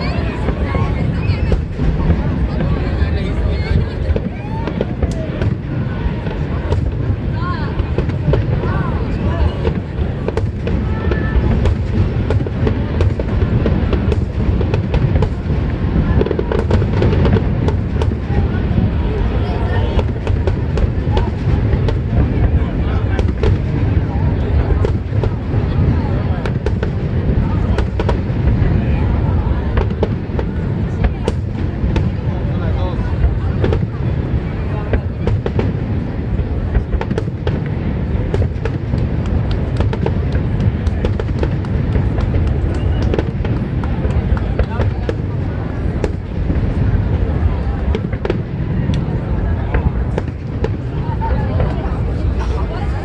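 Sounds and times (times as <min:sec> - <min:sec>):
fireworks cracks and crackles: 0:00.0 - 0:53.0
fireworks rumbling bursts: 0:00.0 - 0:53.0.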